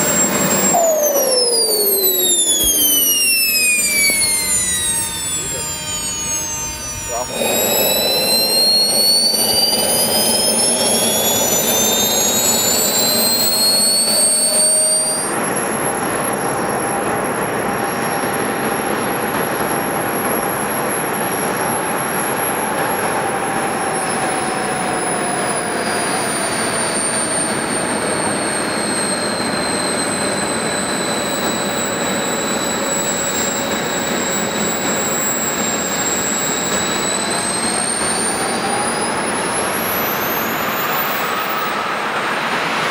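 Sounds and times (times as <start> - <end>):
model jet turbines whining: 0.0 - 42.9.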